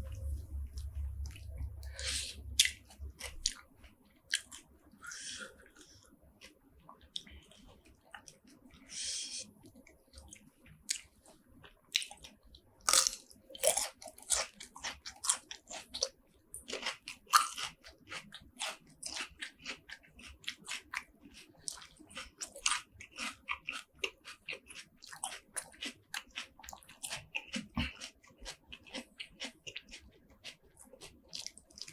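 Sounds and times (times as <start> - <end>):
chewing seafood: 0.0 - 31.9.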